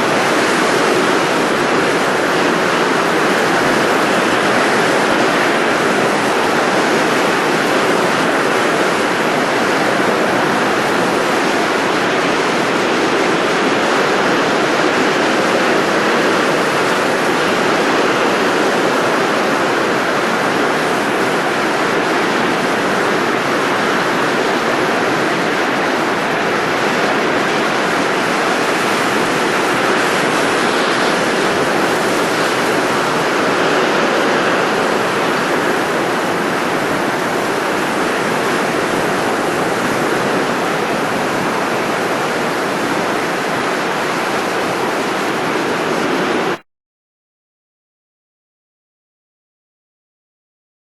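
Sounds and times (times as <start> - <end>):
rushing blowing air: 0.0 - 46.6.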